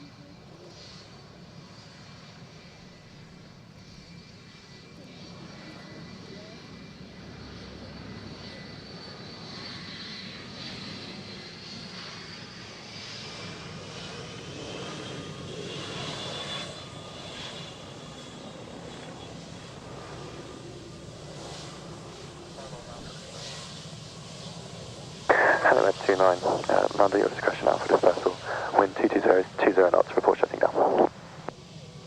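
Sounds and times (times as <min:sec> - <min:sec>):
aircraft engines whining: 0:00.1 - 0:32.0.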